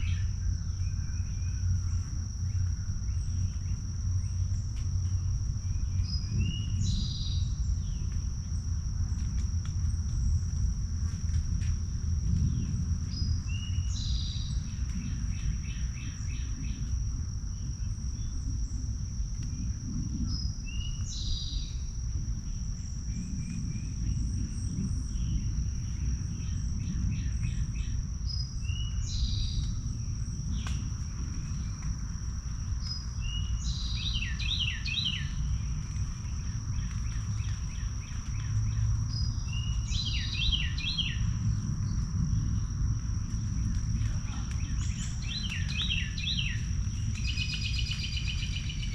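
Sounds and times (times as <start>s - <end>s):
high-pitched insect trill: 0.0s - 48.9s
low rumble: 0.0s - 48.9s.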